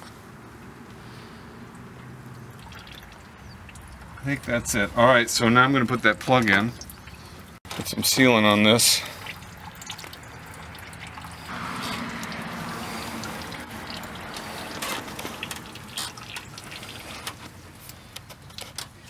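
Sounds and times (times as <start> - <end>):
coolant trickling: 1.1 - 19.0.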